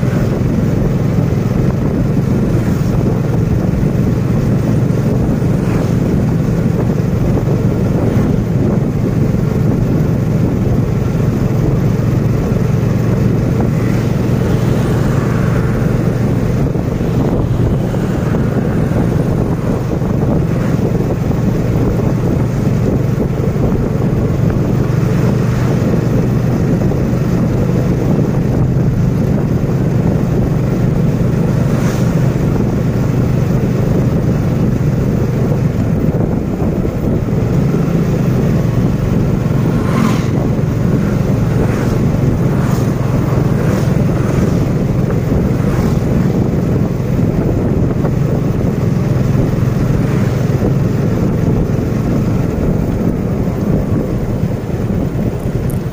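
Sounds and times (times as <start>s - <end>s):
motorcycle engine hum: 0.0s - 55.9s
wind rushing on microphone: 0.0s - 55.9s.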